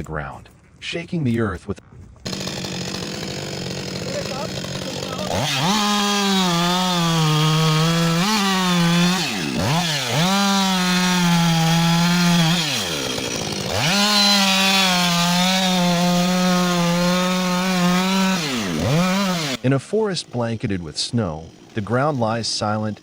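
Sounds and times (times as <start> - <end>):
chainsaw cutting wood: 2.2 - 23.0.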